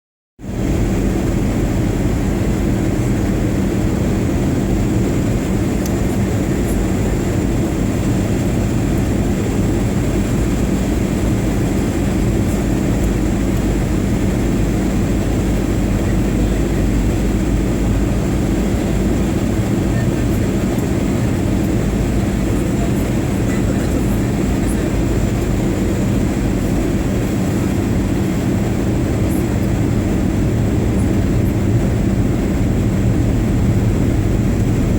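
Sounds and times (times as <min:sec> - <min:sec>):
jet engine roar in flight: 0:00.4 - 0:34.9.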